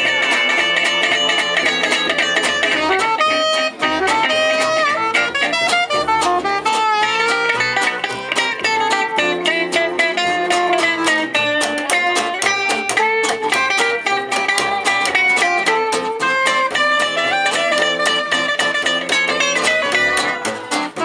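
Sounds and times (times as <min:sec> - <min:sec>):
guitar melody: 0:00.0 - 0:21.0
strummed guitar chords: 0:00.0 - 0:21.0.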